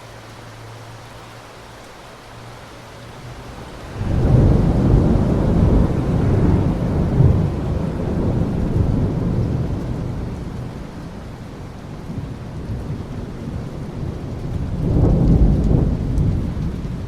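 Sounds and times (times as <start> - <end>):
steady rain: 0.0 - 17.0
low thunder rumble: 3.2 - 17.0.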